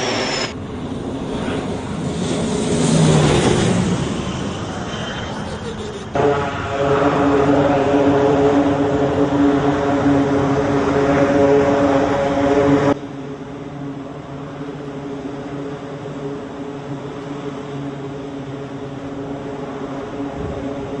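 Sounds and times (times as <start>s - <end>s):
jet engine running at high power: 0.0s - 21.0s
jet engine whine: 0.0s - 21.0s.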